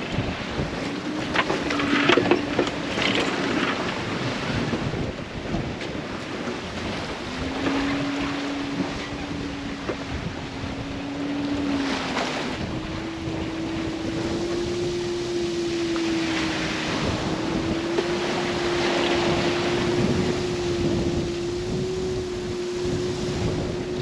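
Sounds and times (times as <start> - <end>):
rushing sea water: 0.0 - 24.0
wind: 0.0 - 24.0
wind generator whining: 0.0 - 24.0.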